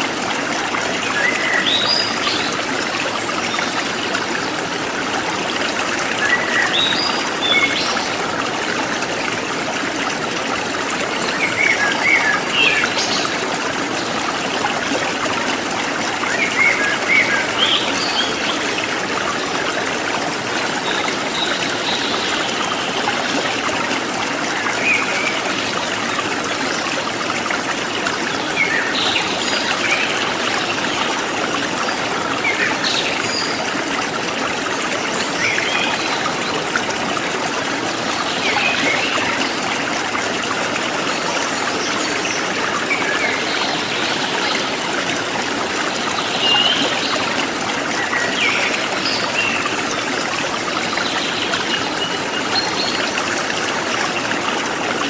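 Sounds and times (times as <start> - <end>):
forest stream trickling: 0.0 - 55.0.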